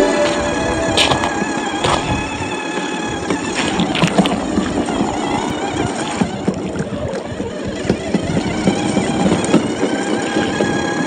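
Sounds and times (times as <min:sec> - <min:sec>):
electric motor whine: 0:00.0 - 0:11.0
toy car wheels crunching: 0:00.0 - 0:11.0.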